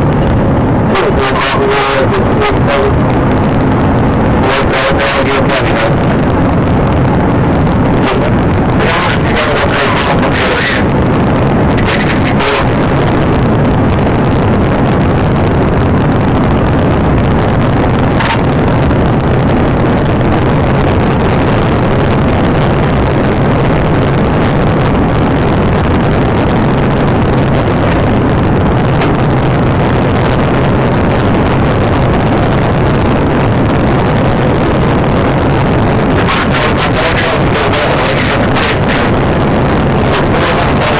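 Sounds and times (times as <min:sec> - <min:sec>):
car engine drone: 0:00.0 - 0:40.9
road and wind rush: 0:00.0 - 0:40.9.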